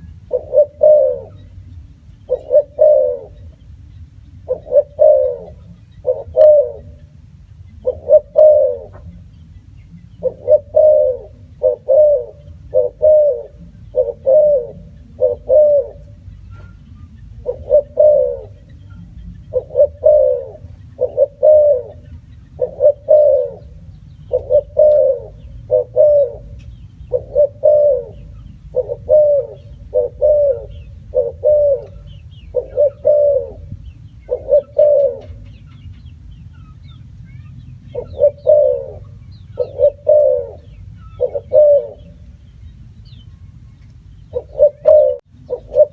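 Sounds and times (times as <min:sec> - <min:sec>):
dove cooing: 0:00.0 - 0:03.6, 0:04.4 - 0:09.3, 0:10.0 - 0:42.4, 0:44.0 - 0:45.9.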